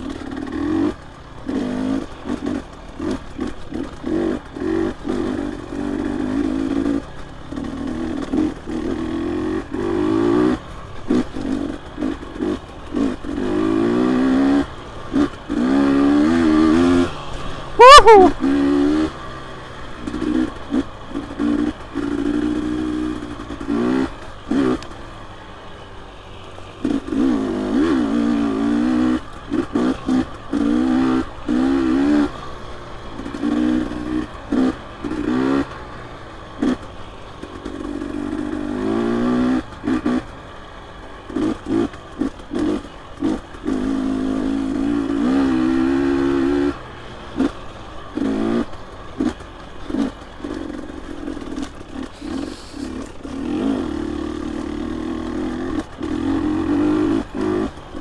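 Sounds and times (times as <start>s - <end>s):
dirt bike engine revving: 0.0s - 24.9s, 26.7s - 36.9s, 37.6s - 58.0s.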